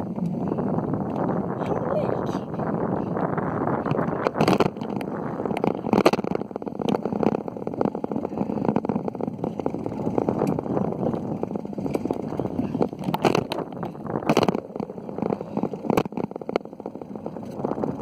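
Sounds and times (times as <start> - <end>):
bicycle riding noise: 0.0 - 18.0
wind buffeting microphone: 0.0 - 18.0.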